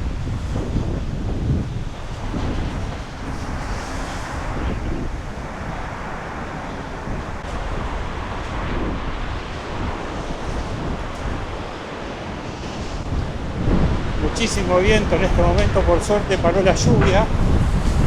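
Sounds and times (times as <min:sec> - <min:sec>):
storm wind buffeting microphone: 0:00.0 - 0:18.0
waves washing against shore: 0:00.0 - 0:18.0.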